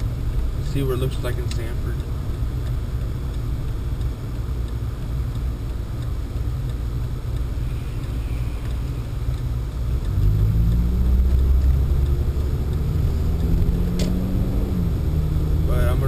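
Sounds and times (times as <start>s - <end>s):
car engine from inside cabin: 0.0s - 16.0s
road noise: 0.0s - 16.0s.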